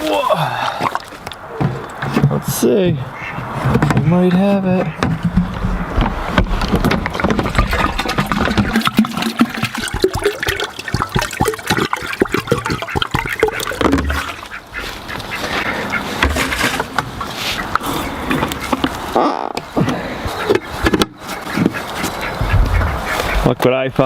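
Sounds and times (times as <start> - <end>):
ducks quacking: 2.9 - 5.9, 7.1 - 24.0.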